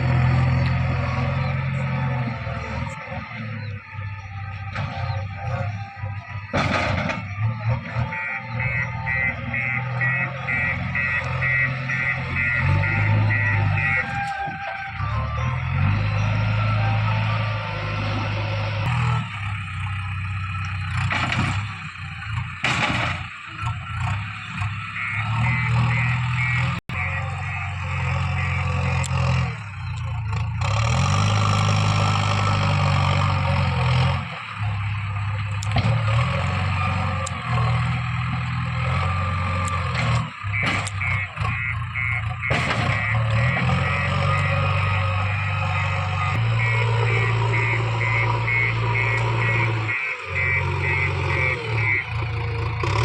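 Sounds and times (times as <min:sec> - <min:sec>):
diesel engine revving: 0:00.0 - 0:53.0.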